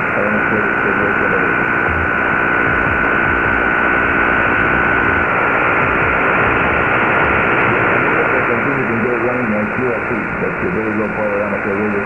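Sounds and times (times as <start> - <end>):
faint am radio broadcast: 0.0 - 12.0
shortwave radio static and hiss: 0.0 - 12.0.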